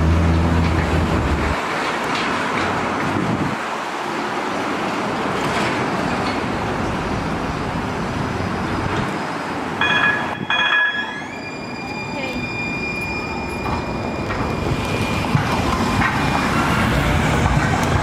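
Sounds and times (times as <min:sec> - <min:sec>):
street traffic passing: 0:00.0 - 0:18.0
light rail electric whine: 0:01.5 - 0:18.0.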